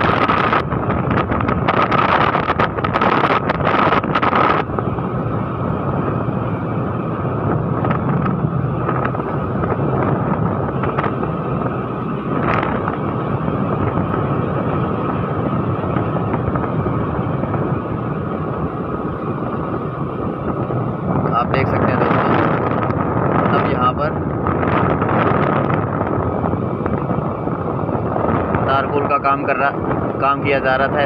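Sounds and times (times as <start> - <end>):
scooter running with road noise: 0.0 - 31.0
wind rushing over microphone: 0.0 - 31.0.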